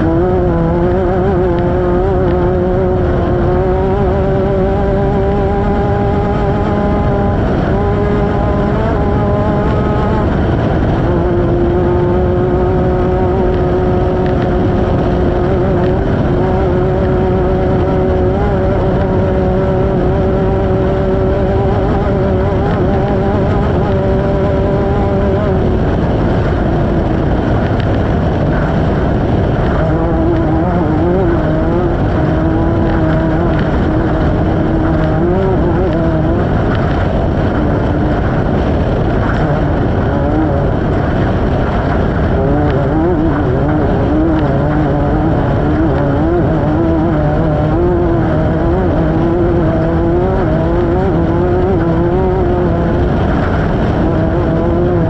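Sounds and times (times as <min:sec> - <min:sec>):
loud rush of noise: 0:00.0 - 0:55.0
race vehicle engine running hard: 0:00.0 - 0:55.0.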